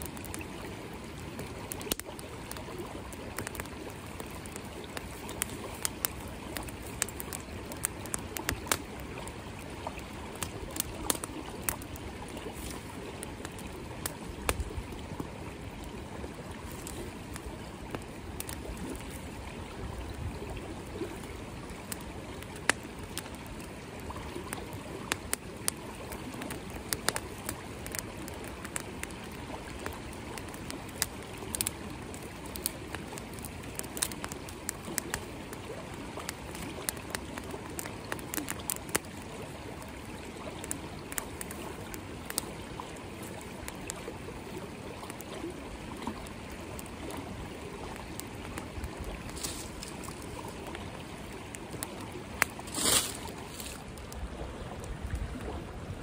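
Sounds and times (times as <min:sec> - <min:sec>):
campfire crackling and popping: 0:00.0 - 0:56.0
creek running: 0:00.0 - 0:56.0.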